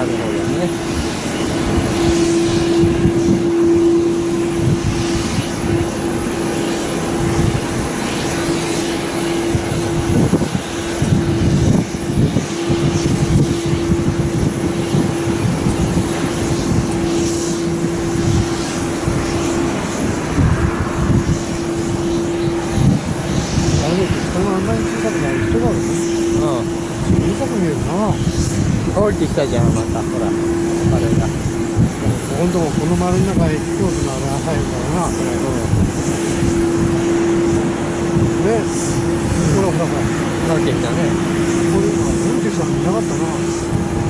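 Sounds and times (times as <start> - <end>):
distant aircraft engines droning: 0.0 - 44.0
wind buffeting microphone: 0.0 - 44.0.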